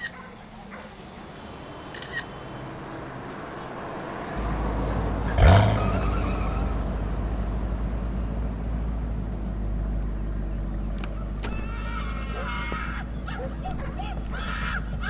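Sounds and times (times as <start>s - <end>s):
car engine rumble passing: 0.4s - 15.0s.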